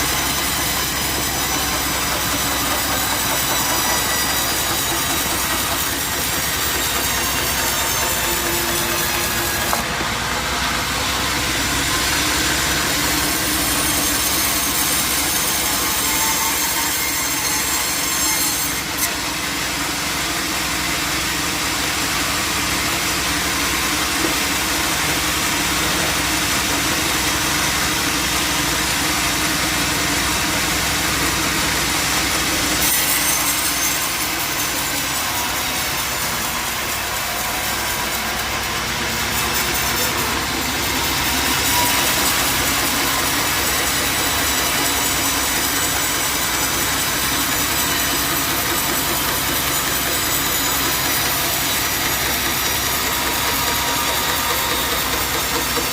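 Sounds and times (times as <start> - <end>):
sawmill saw cutting log: 0.0 - 55.9.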